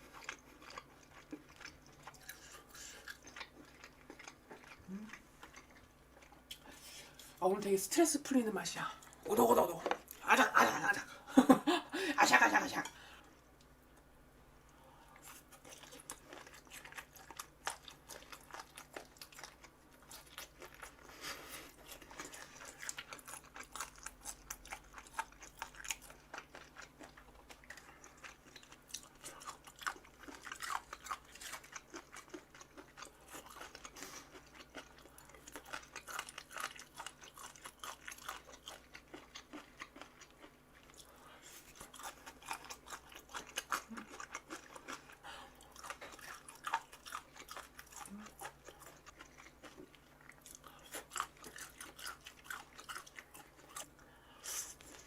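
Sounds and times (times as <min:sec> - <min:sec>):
crunchy chewing: 0:00.0 - 0:07.4, 0:15.2 - 0:55.0.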